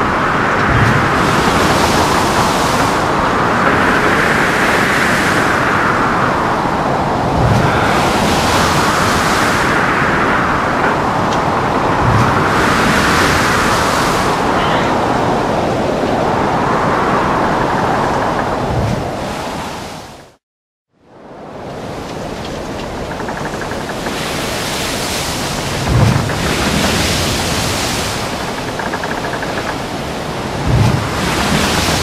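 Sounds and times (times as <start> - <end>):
heavy waves and wind: 0.0 - 20.4, 21.0 - 32.0.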